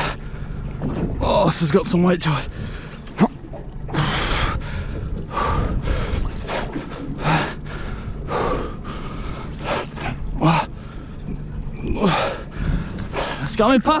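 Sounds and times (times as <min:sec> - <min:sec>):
wind and boat rumble: 0:00.0 - 0:14.0.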